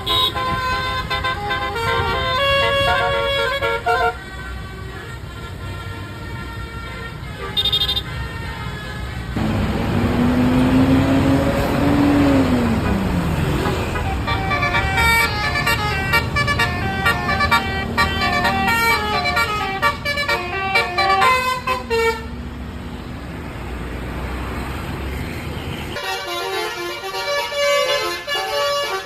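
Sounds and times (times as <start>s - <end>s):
multi-tone bus horn tune: 0.0s - 22.4s, 25.9s - 29.0s
bus engine: 0.0s - 29.0s
road noise: 0.0s - 29.0s.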